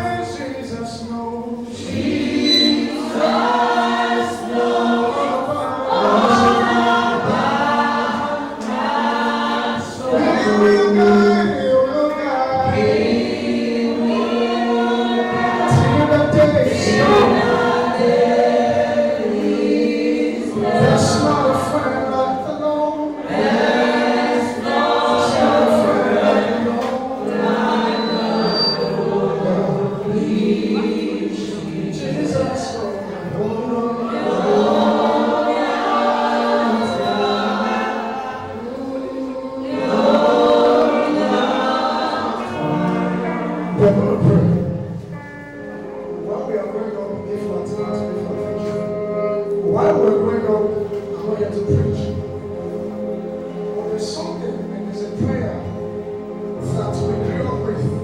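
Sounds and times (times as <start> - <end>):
backing music: 0.0 - 58.0
choir singing: 0.0 - 58.0.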